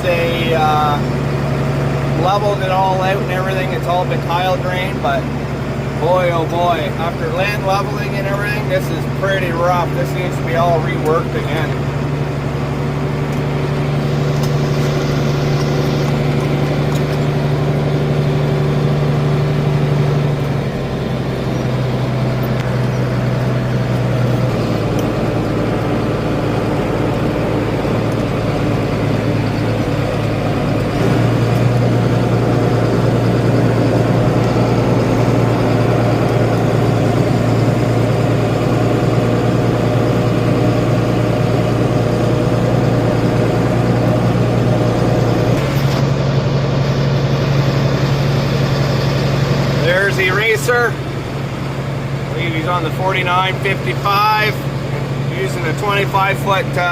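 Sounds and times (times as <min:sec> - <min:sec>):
vehicle engine running under load: 0:00.0 - 0:56.9.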